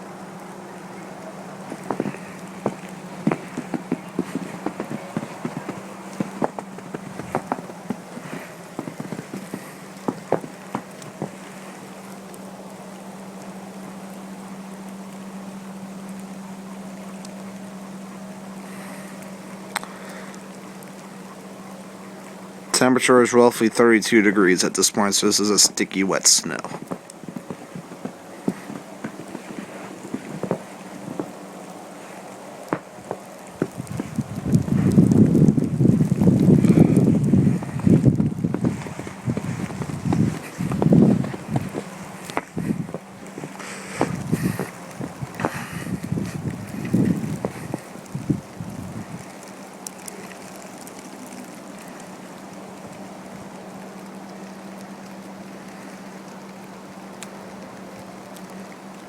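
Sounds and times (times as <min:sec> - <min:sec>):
steady low hum: 0:00.0 - 0:59.0
wet snow pattering: 0:00.0 - 0:59.0.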